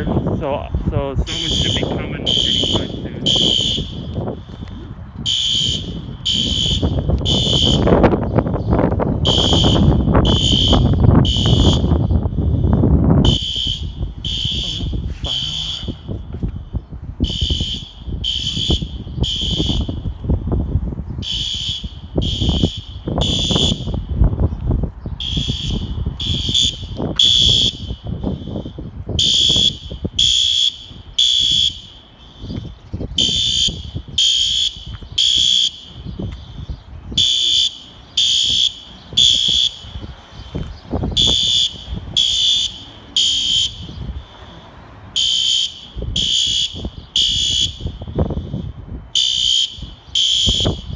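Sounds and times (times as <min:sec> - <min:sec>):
fire alarm horn blasts: 0:00.0 - 0:20.6, 0:21.2 - 0:24.2, 0:25.2 - 0:40.3, 0:40.9 - 0:50.9
faint fire alarm horn: 0:01.1 - 0:20.6, 0:21.2 - 0:24.2, 0:25.2 - 0:40.3, 0:41.0 - 0:50.9.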